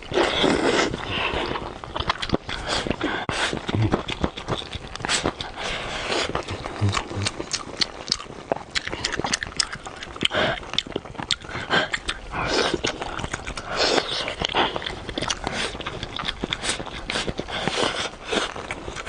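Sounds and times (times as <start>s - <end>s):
slurping: 0.0s - 19.0s
wet chewing: 0.0s - 19.0s
lip-smacking: 0.2s - 19.0s.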